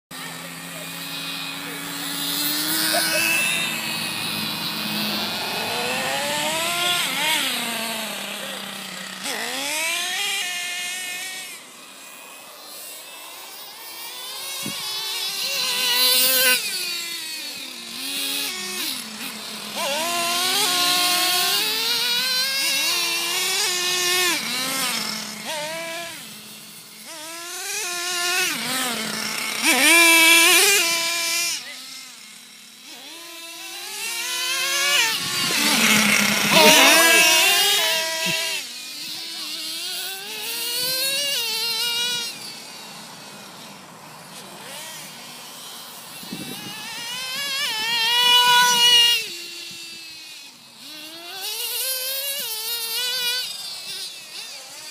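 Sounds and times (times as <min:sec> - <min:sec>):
toy truck motor whining: 0:00.1 - 0:54.9.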